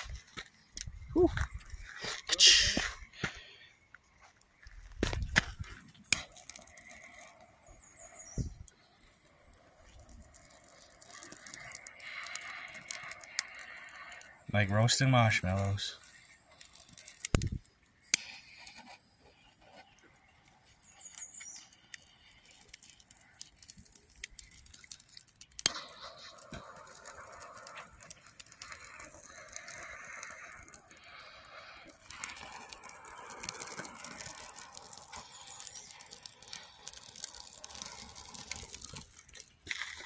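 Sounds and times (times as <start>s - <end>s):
fire popping: 0.0s - 40.0s
wood fire crackling: 0.0s - 40.0s
steady hiss: 6.0s - 39.1s.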